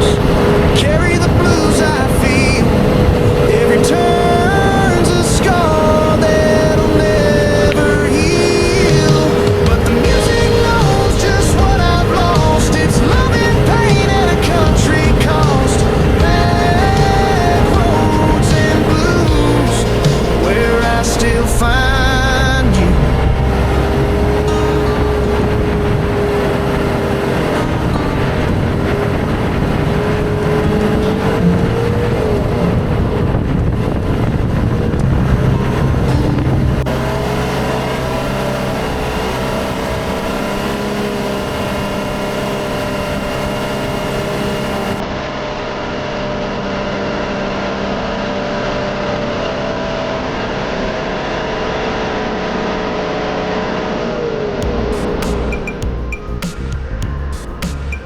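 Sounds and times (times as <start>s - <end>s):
vehicle engine hum: 0.0s - 58.0s.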